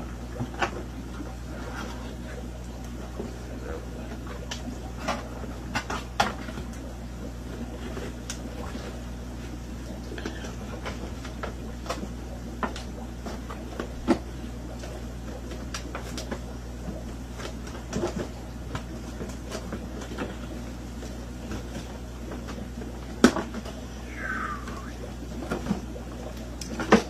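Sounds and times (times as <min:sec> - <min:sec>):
steady low hum: 0:00.0 - 0:19.3, 0:19.9 - 0:27.0.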